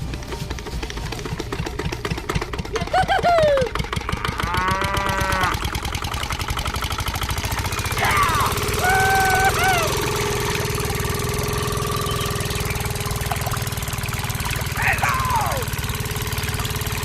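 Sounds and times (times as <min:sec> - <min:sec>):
small engine knocking: 0:00.0 - 0:17.0.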